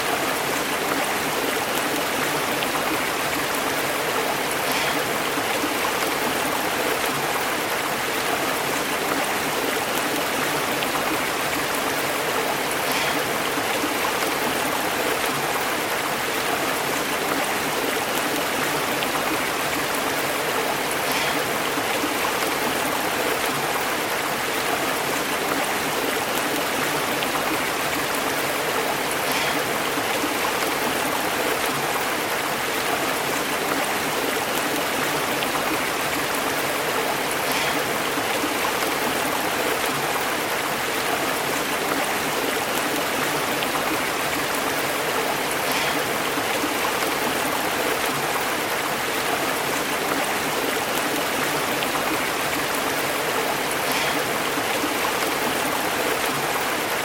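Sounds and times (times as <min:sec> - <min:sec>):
stream running over rocks: 0:00.0 - 0:57.0.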